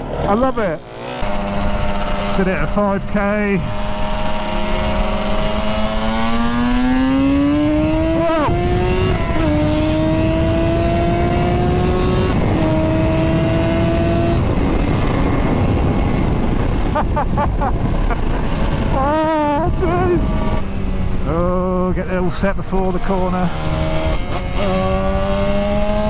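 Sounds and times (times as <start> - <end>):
two-stroke engine accelerating: 0.0 - 26.0
wind rumble: 0.8 - 2.3, 2.9 - 26.0.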